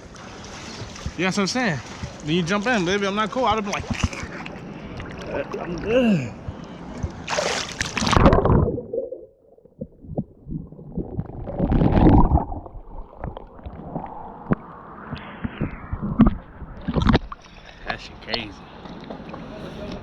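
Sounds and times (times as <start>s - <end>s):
water splashing in a pool: 0.0s - 17.9s
muffled gurgling and sloshing: 0.0s - 20.0s.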